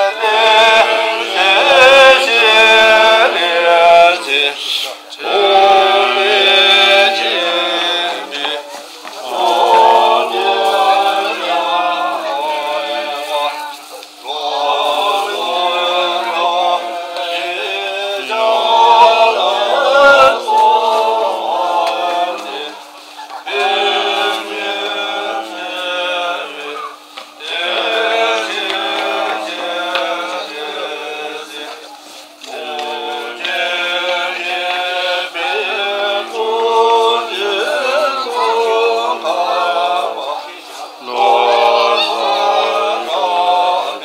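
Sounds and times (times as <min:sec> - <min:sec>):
voices chanting a prayer: 0:00.0 - 0:44.0.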